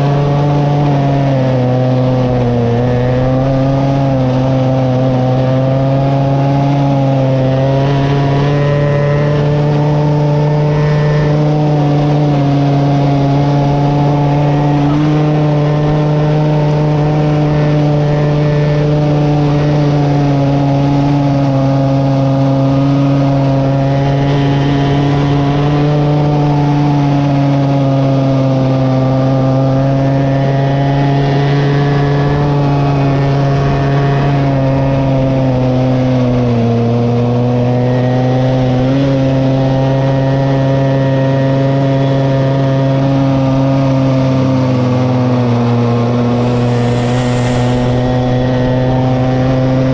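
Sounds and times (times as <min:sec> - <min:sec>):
small petrol engine running high: 0:00.0 - 0:49.9.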